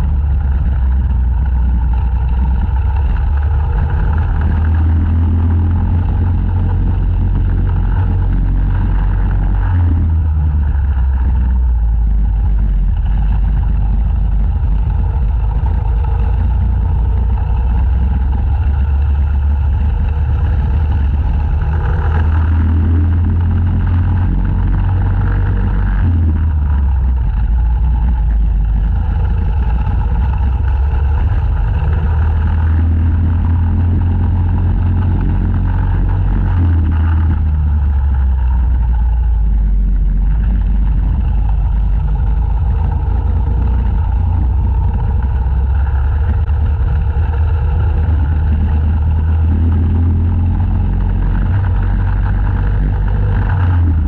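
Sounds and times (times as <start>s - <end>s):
go-kart engine racing: 0.0s - 54.0s.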